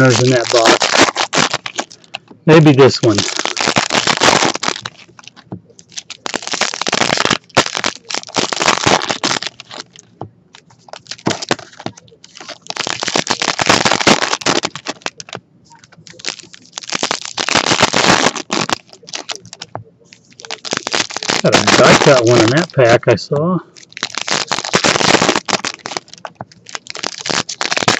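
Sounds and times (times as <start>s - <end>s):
foil wrappers crinkling and tearing: 0.0s - 23.0s, 23.7s - 27.9s.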